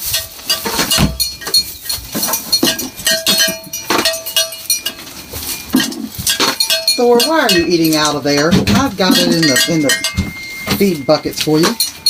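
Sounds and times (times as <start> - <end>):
metal feed buckets clanking: 0.0 - 12.0.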